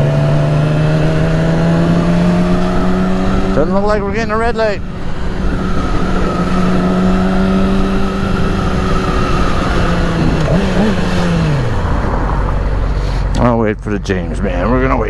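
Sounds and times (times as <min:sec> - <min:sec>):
motorcycle engine cruising: 0:00.0 - 0:15.0
wind and road noise: 0:00.0 - 0:15.0.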